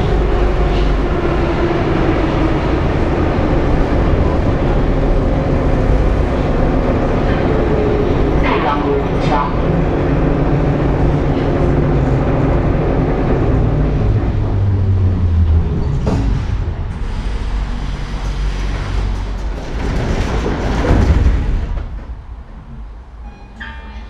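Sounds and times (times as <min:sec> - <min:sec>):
train rumbling and braking: 0:00.0 - 0:24.0.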